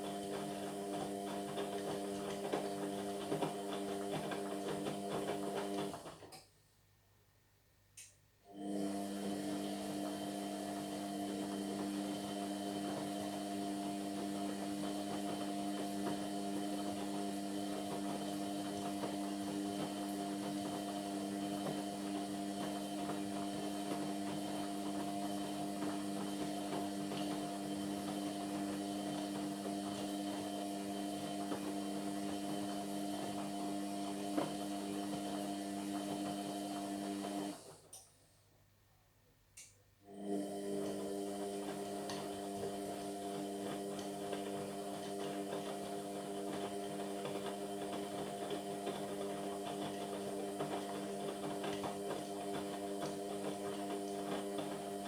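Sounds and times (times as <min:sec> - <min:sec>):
washing machine motor humming: 0:00.0 - 0:06.3, 0:08.5 - 0:37.9, 0:40.1 - 0:55.0.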